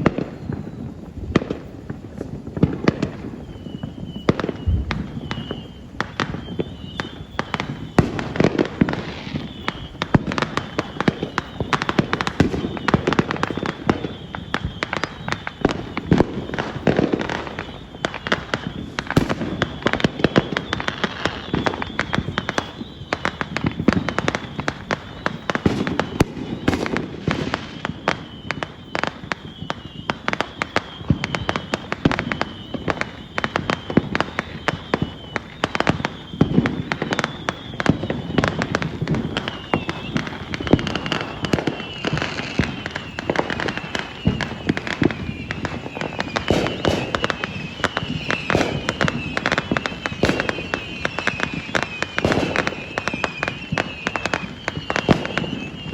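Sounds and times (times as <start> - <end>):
fireworks crackling and banging: 0.0 - 55.9
high wavering whistle: 2.1 - 55.9.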